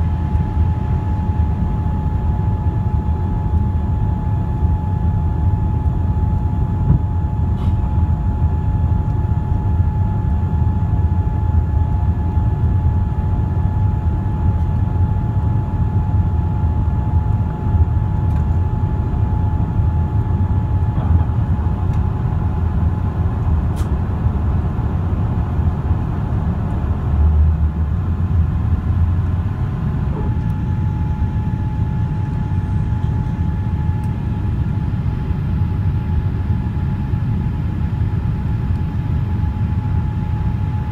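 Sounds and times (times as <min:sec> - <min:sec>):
airplane cabin engine roar: 0:00.0 - 0:40.9
steady engine whine: 0:00.0 - 0:40.9.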